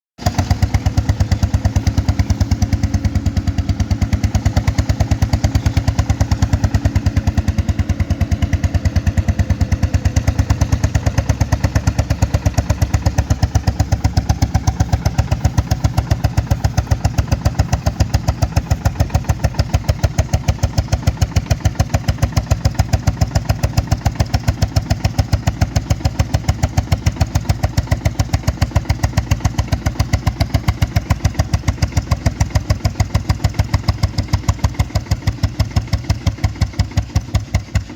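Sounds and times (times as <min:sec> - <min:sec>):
tractor engine exhaust beats: 0:00.2 - 0:37.9.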